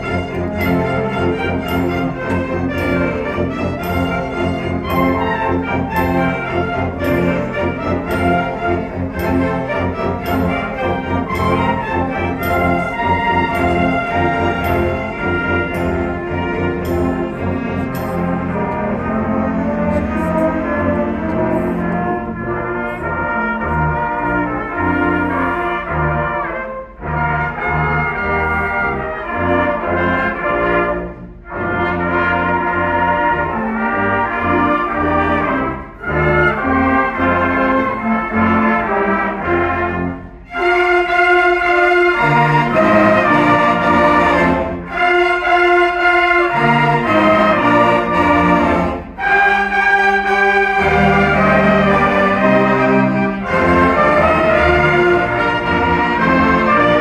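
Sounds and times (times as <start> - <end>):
concert band playing carols: 0.0 - 57.0.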